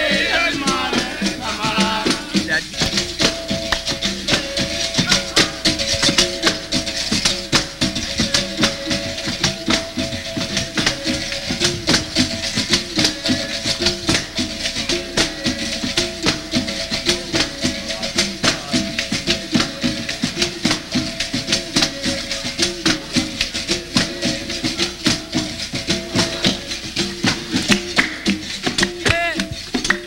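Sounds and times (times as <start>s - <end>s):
shakers rattling: 0.0s - 30.0s.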